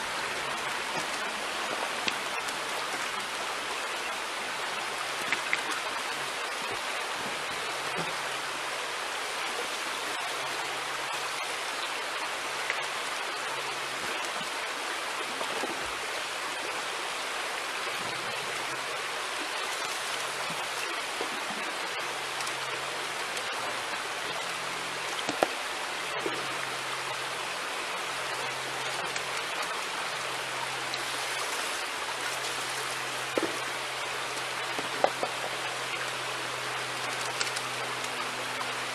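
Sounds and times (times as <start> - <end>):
creek rushing: 0.0 - 38.9.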